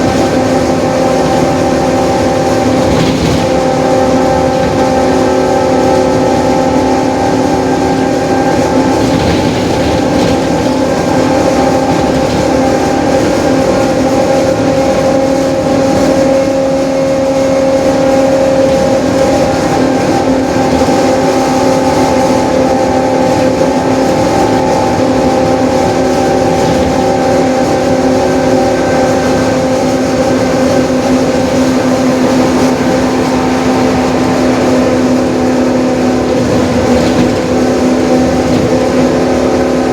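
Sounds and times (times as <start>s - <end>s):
bus differential whine: 0.0s - 39.9s
bus engine and road noise: 0.0s - 39.9s.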